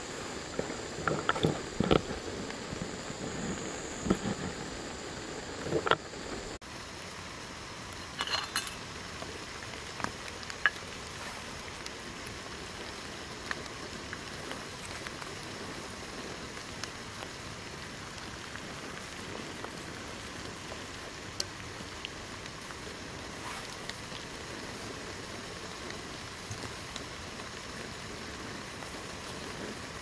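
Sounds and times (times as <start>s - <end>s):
camp stove hissing: 0.0s - 30.0s
water bubbling in pot: 0.0s - 30.0s.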